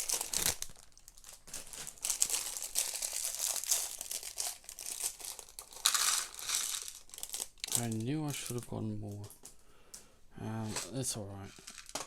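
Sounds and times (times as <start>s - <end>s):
plastic bags crinkling: 0.0s - 9.5s, 10.7s - 12.0s.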